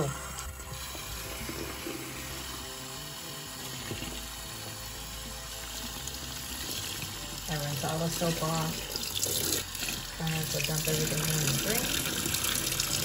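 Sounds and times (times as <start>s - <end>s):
tap water running into barrel: 0.0s - 13.0s.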